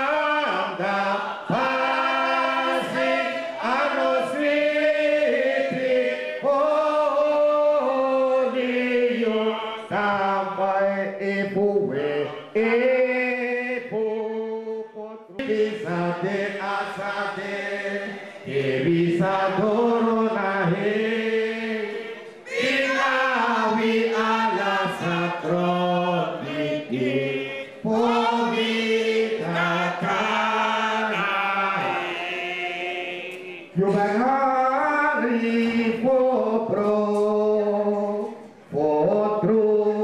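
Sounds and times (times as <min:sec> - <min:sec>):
group singing a chant: 0:00.0 - 0:40.0.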